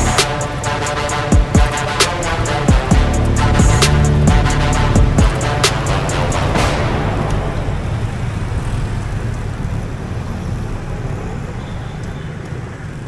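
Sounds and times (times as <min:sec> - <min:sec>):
motorbike engine running: 0:00.0 - 0:11.9
city street traffic: 0:00.0 - 0:13.0.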